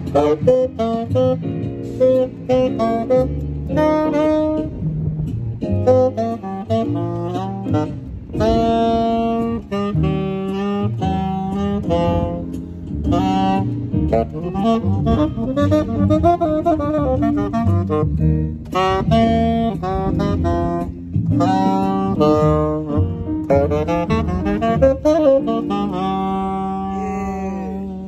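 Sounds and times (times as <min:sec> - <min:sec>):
tenor saxophone jazz melody: 0:00.0 - 0:28.0.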